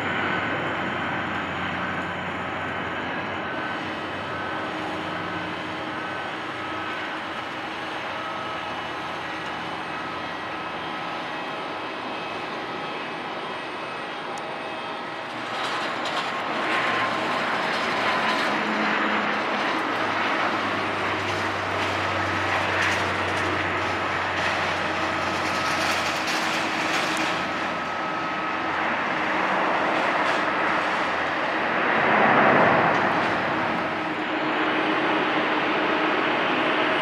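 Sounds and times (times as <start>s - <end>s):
turboprop engine and propeller drone: 0.0s - 37.0s.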